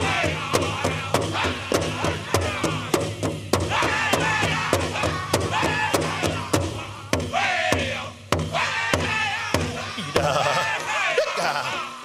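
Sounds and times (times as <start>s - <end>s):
big drum beating: 0.0s - 10.6s
group singing in high voices: 0.0s - 12.0s.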